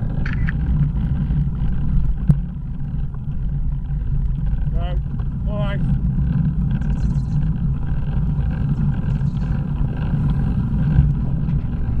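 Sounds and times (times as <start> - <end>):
bicycle riding on wet road: 0.0 - 12.0
wind rumble on microphone: 0.0 - 12.0.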